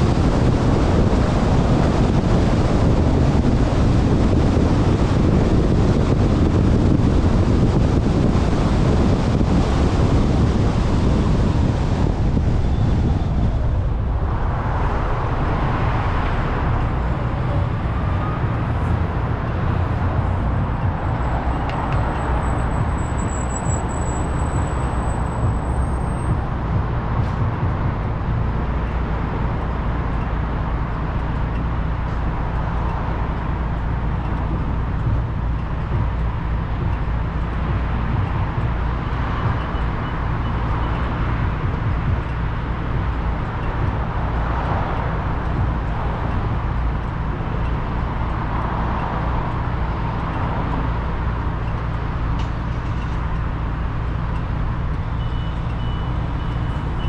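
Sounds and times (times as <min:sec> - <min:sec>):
engines idling: 0:00.0 - 0:57.0
road traffic rumble: 0:00.0 - 0:57.0.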